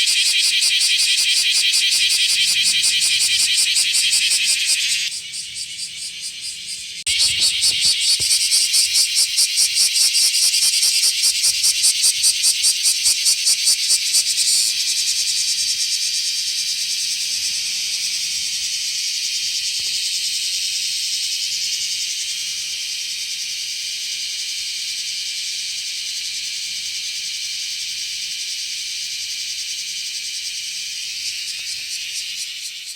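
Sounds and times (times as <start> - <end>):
cicada buzzing: 0.0 - 32.9.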